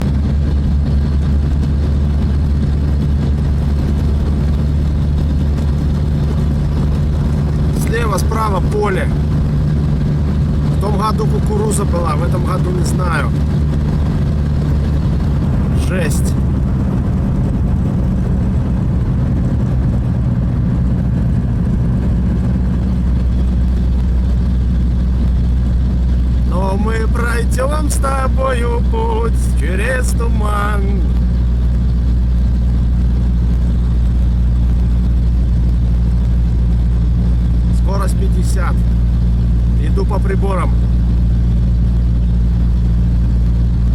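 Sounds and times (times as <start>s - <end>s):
road noise: 0.0s - 43.9s
vehicle engine drone: 0.0s - 43.9s.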